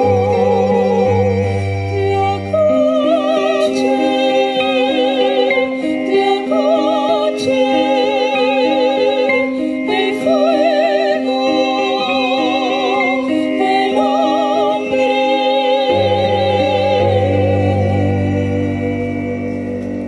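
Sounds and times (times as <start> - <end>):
piano chords: 0.0 - 20.0
violin: 0.0 - 20.0
women singing operatic melody: 0.0 - 20.0.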